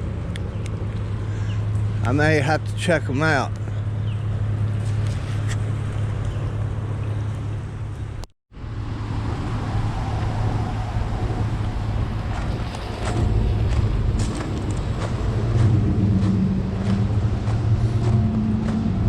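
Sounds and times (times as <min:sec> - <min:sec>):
road and wind noise: 0:00.0 - 0:19.0
vehicle engine hum: 0:00.0 - 0:19.0.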